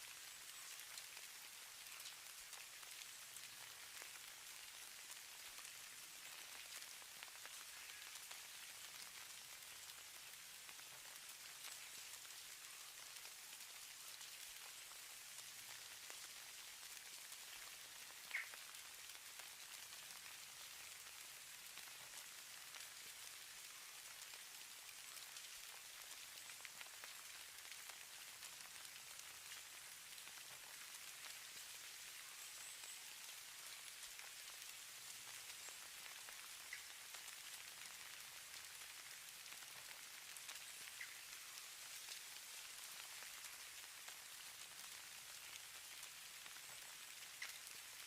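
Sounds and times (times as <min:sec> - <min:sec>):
snowflakes pattering hiss: 0:00.0 - 0:48.0.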